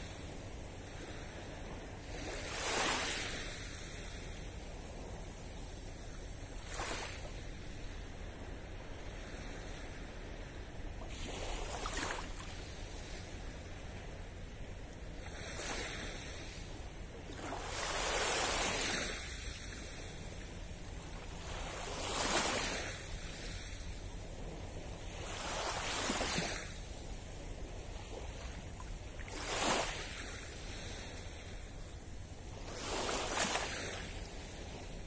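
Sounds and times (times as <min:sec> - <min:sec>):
small waves lapping on beach: 0:00.0 - 0:35.0.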